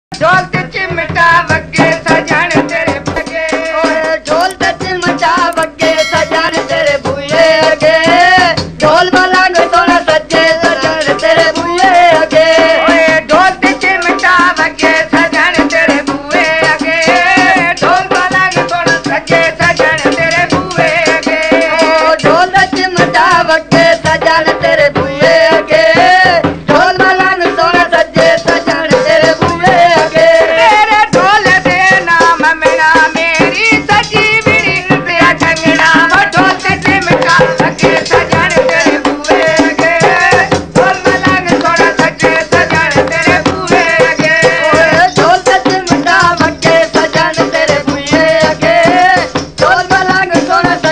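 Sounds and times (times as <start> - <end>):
dhol drum: 0.1 - 50.9
person singing folk melody: 0.1 - 50.9.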